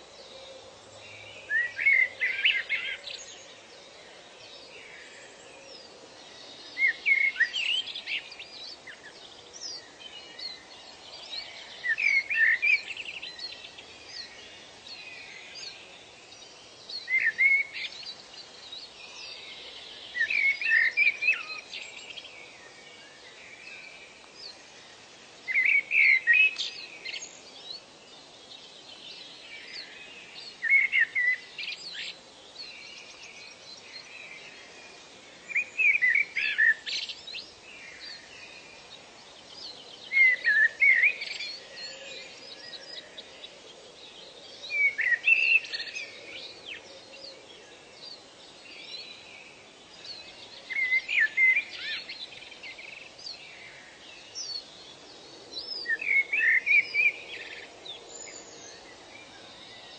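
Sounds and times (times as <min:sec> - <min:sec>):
faint background noise: 0:00.0 - 0:59.9
songbird chirping: 0:00.0 - 0:59.9.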